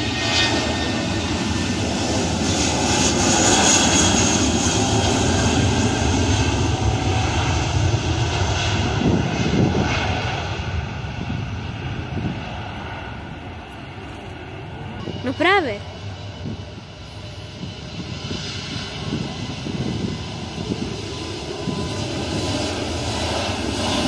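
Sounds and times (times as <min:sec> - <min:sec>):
jet engines passing by: 0:00.0 - 0:24.0.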